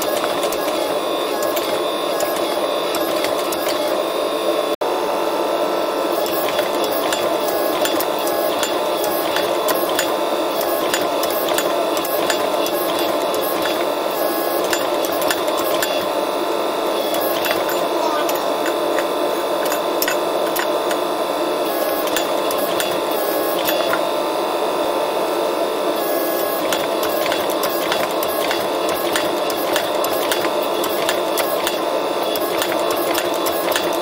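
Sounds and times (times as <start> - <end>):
forging press whirring and ticking: 0.0 - 4.1, 6.0 - 24.5, 25.9 - 34.0.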